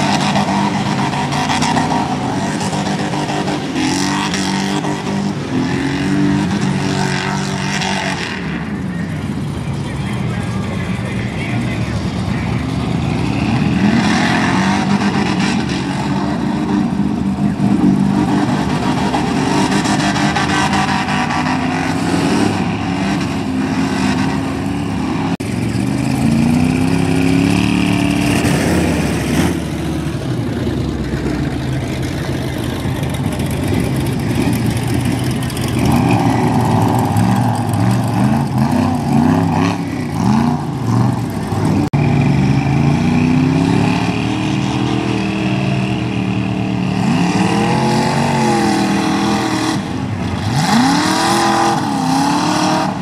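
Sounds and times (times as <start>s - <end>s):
vehicle engine revving hard: 0.0s - 8.6s, 12.3s - 30.1s, 34.2s - 53.0s.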